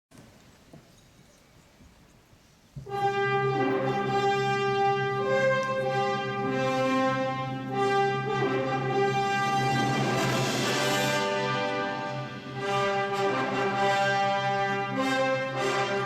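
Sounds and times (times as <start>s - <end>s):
orchestral music with brass chords: 2.8s - 16.0s.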